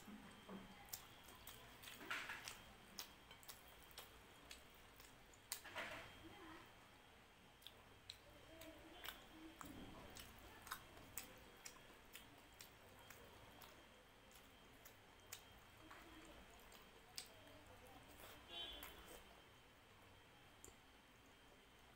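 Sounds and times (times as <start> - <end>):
wet chewing mouth clicks: 0.0 - 5.9, 7.6 - 19.4.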